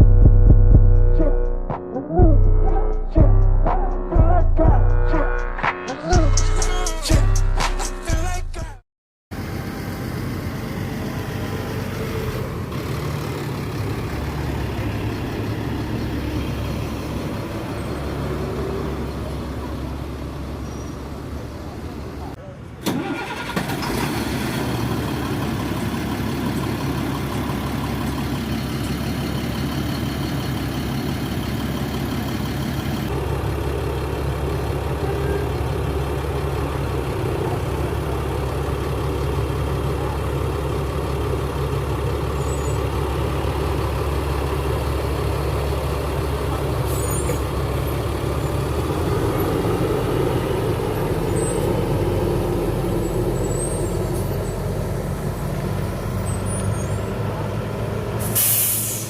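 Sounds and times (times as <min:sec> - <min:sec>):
diesel engine idling: 0:08.1 - 0:59.0.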